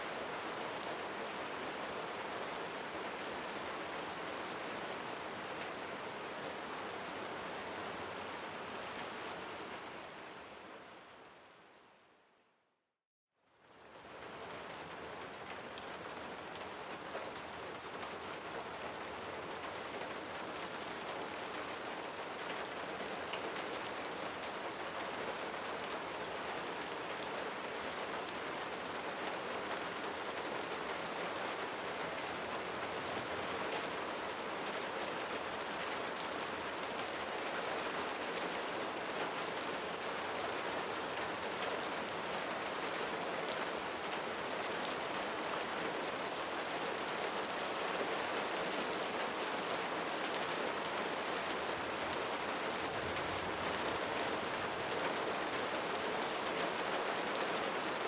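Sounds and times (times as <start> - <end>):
rain falling on leaves: 0.0 - 12.3, 13.5 - 58.0.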